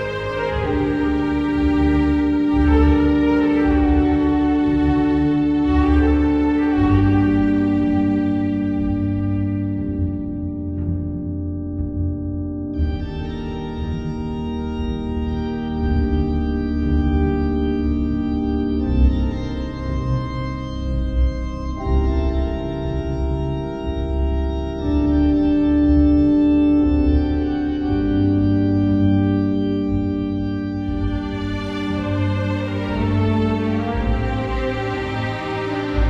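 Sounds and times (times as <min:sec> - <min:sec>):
slow sustained chords: 0:00.0 - 0:36.0.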